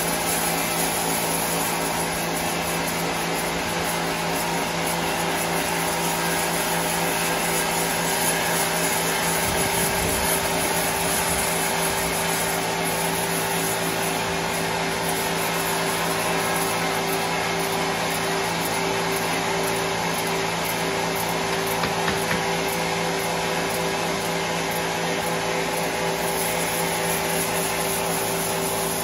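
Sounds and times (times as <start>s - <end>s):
band sawmill hum and whine: 0.0s - 29.0s.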